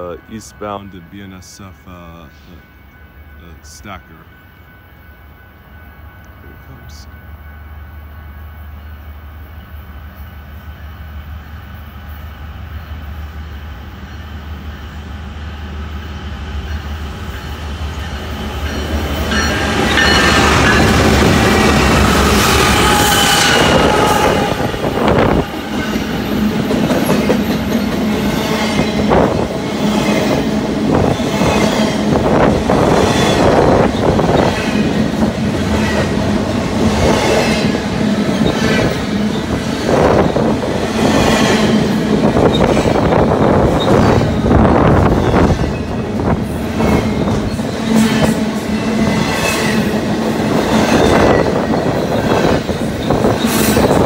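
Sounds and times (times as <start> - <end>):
diesel locomotive passing: 0.0 - 54.0
freight train rumble: 0.0 - 54.0.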